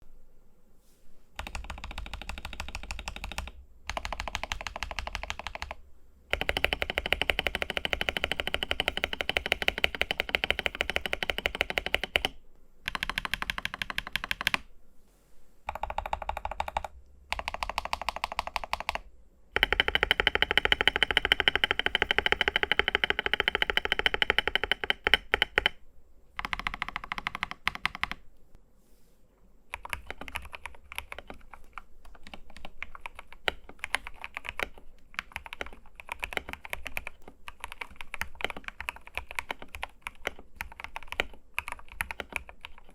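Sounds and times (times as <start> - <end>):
fast typing on mechanical keyboard: 1.4 - 14.7, 15.7 - 25.8, 26.4 - 28.2, 29.7 - 42.9.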